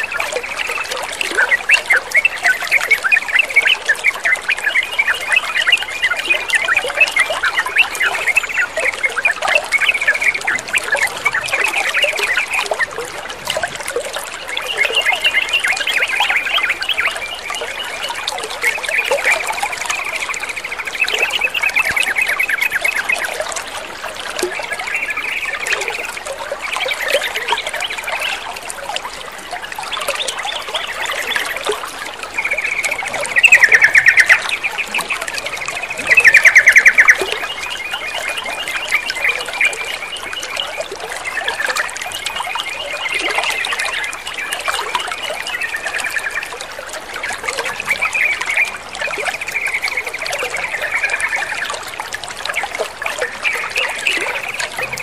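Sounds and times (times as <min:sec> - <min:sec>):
songbirds trilling: 0:00.0 - 0:51.9, 0:52.5 - 0:55.0
water trickling and splashing: 0:00.0 - 0:55.0.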